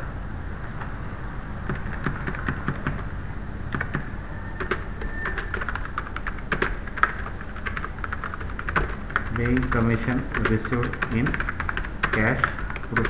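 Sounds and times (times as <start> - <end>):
typing on computer keyboard: 1.6 - 3.1, 3.7 - 13.0.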